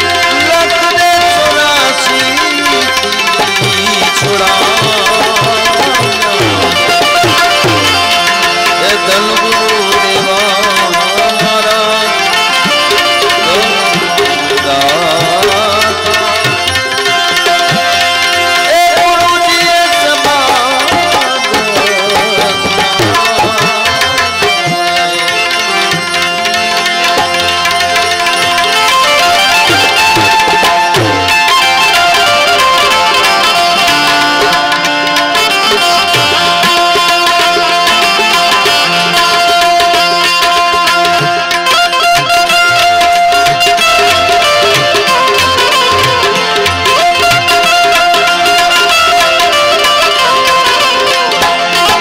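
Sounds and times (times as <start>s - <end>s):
melodic accompaniment: 0.0s - 52.0s
tabla rhythm: 0.0s - 52.0s.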